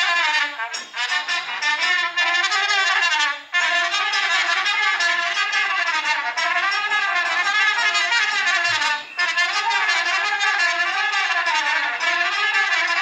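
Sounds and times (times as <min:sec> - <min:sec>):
trumpets playing folk dance tune: 0:00.0 - 0:13.0.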